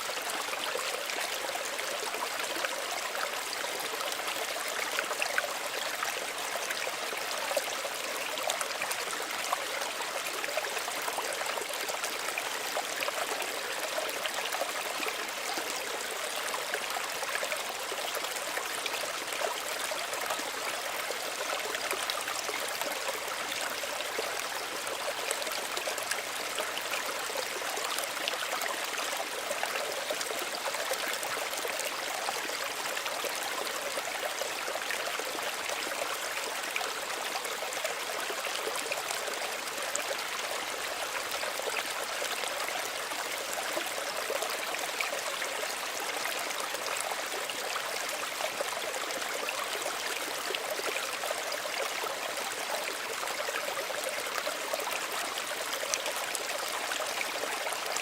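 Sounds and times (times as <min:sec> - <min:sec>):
small stream trickling over stones: 0:00.0 - 0:58.0.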